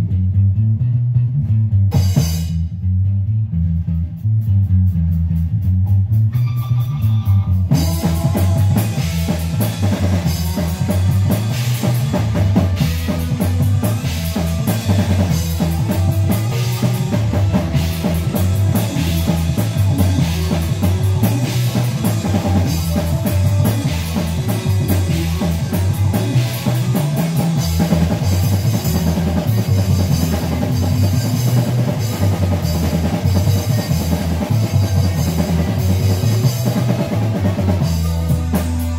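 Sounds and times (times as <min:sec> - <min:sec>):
drum kit: 0:00.0 - 0:38.9
electric bass line: 0:00.0 - 0:38.9
electric guitars: 0:04.9 - 0:38.9.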